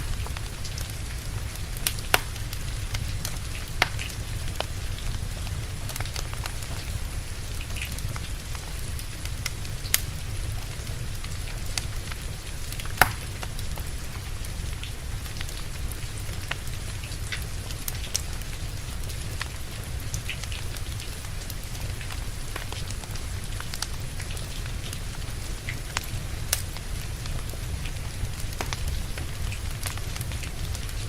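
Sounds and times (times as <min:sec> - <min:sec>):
steady rain: 0:00.0 - 0:31.0
wood fire crackling: 0:00.0 - 0:31.0.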